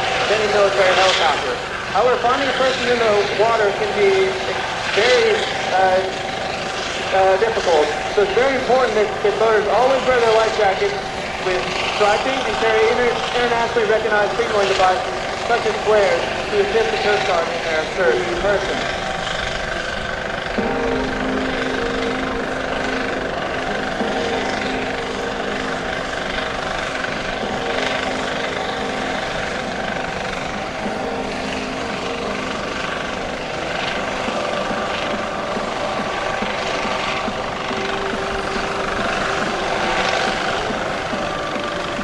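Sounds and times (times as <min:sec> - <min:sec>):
helicopter hovering: 0:00.0 - 0:42.0.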